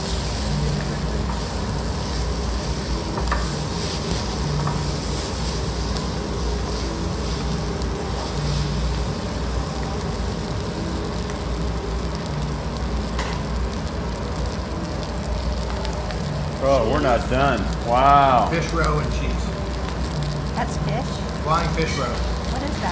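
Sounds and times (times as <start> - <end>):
rice sizzling on a griddle: 0.0 - 22.9.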